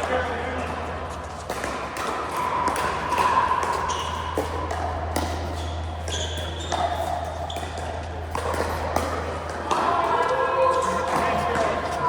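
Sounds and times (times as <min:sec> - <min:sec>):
ball bouncing on court: 0:00.0 - 0:10.4.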